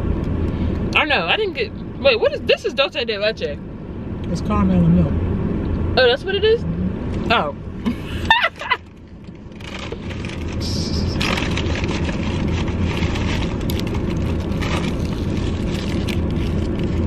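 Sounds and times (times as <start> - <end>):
motor vehicle rumble: 0.0 - 17.0
traffic noise: 0.0 - 17.0.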